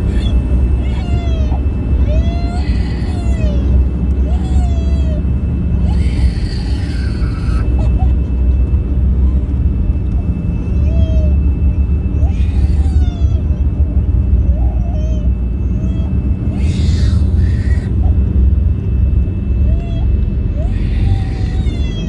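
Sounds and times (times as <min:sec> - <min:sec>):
jet engines and wheels rumbling: 0:00.0 - 0:22.0.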